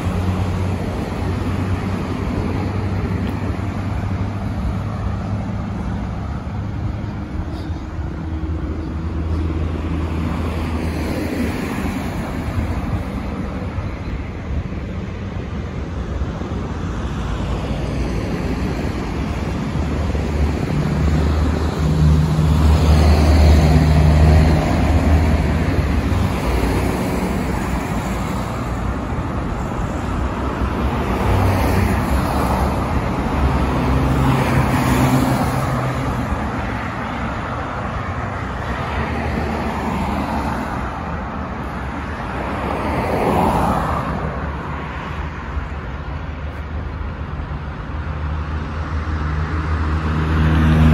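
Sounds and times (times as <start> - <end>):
traffic hum: 0.0 - 50.9.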